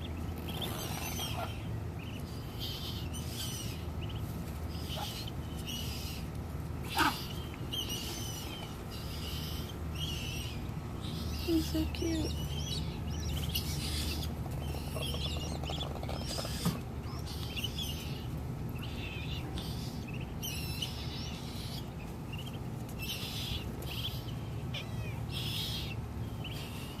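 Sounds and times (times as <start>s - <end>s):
ducklings peeping: 0.0s - 27.0s
steady low hum: 0.0s - 27.0s.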